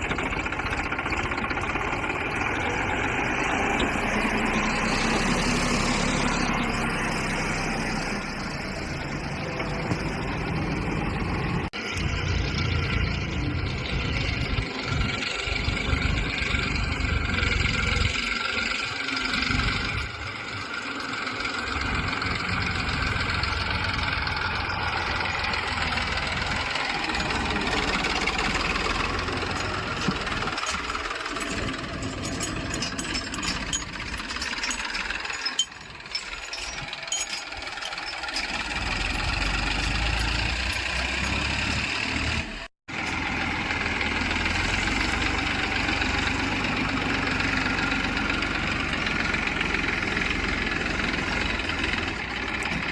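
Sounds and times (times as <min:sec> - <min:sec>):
heavy diesel engine rumbling: 0:00.0 - 0:52.9.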